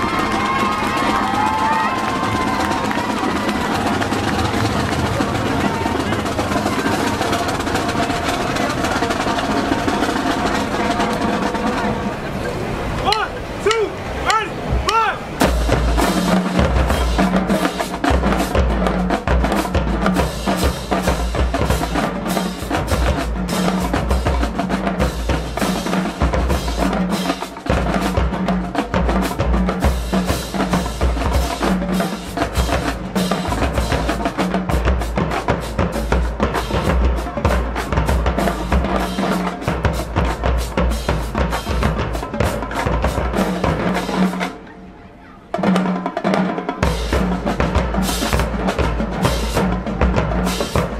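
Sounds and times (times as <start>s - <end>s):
drumline playing: 0.0s - 50.9s.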